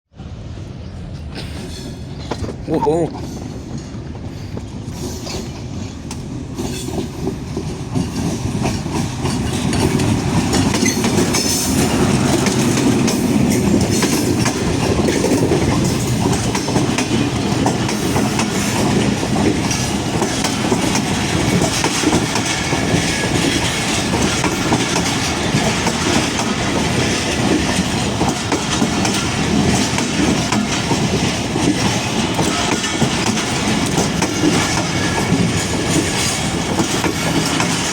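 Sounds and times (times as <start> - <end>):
train wheels clattering over rails: 1.0 - 37.9.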